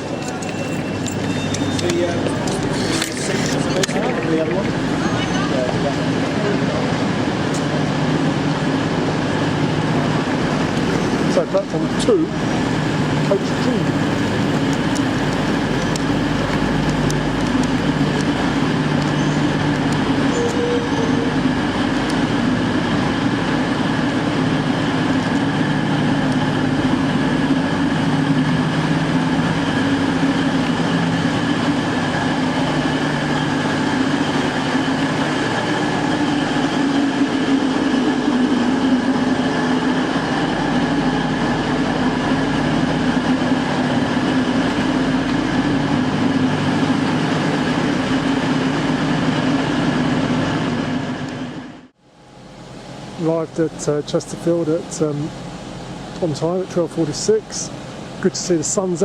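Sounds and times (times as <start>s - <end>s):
diesel train running: 0.0s - 59.0s
steady hum: 0.0s - 59.0s.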